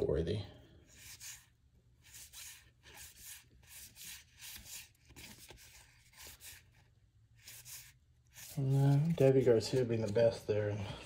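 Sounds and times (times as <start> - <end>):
cards sliding soft swishes: 0.9 - 10.3.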